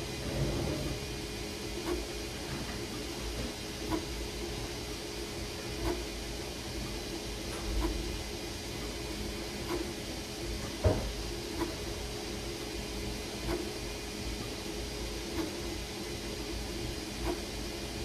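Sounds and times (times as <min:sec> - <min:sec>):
printer humming: 0:00.0 - 0:18.0.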